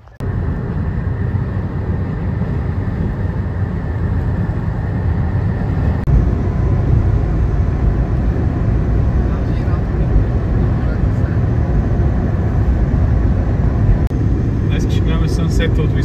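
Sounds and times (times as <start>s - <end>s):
low rumble of moving vehicle: 0.0s - 16.0s.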